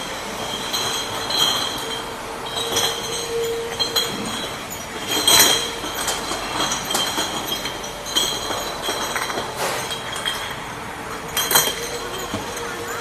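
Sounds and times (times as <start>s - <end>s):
glass bottles clinking: 0.0s - 13.0s
machine running noise: 0.0s - 13.0s.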